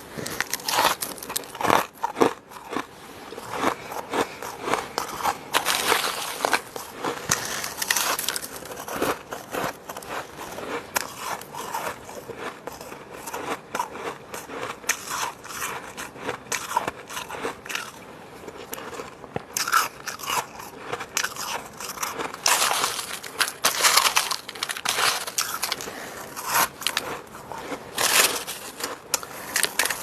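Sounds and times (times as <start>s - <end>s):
chewing crunchy frost: 0.1s - 30.0s.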